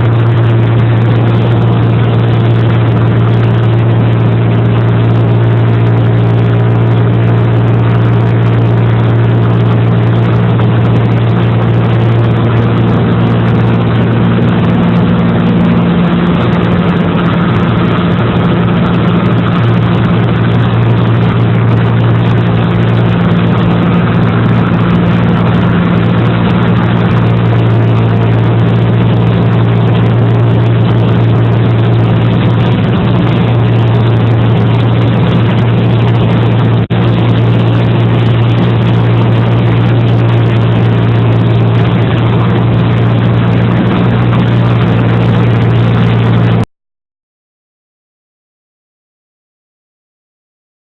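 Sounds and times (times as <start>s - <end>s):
engine droning: 0.0s - 46.7s.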